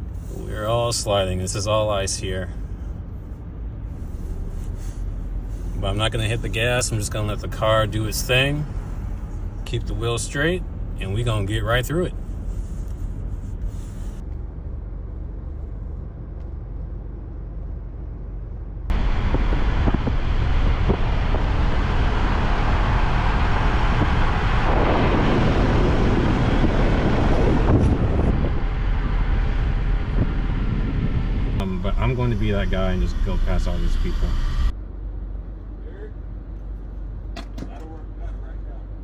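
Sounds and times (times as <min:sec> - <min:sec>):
car driving on icy road: 0:00.0 - 0:39.0.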